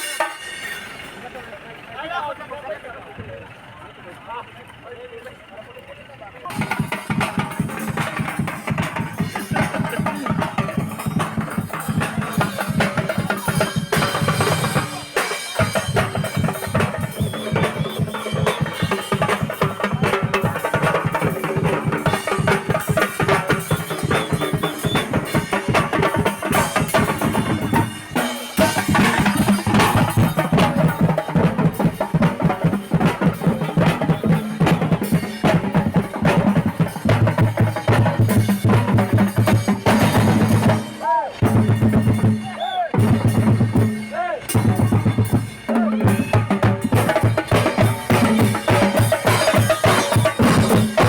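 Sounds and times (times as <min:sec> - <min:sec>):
drum-heavy music: 0:00.0 - 0:01.2, 0:06.5 - 0:51.0.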